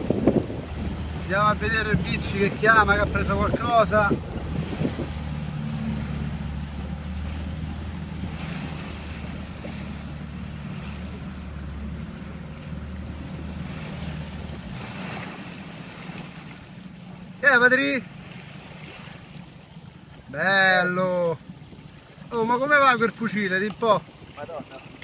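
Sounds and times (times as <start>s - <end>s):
boat engine humming: 0.0s - 25.0s
water noise: 0.0s - 25.0s
wind: 0.0s - 25.0s.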